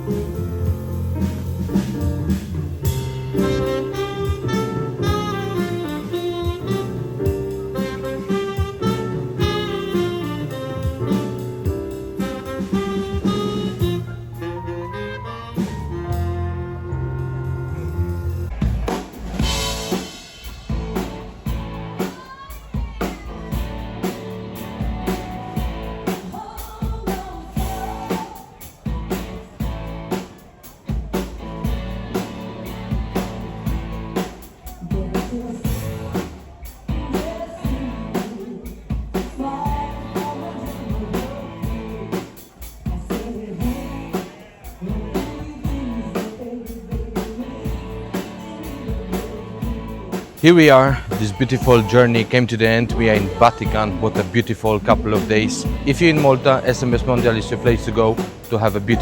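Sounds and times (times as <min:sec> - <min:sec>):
song with vocals and band: 0:00.0 - 0:17.7, 0:18.5 - 0:59.0.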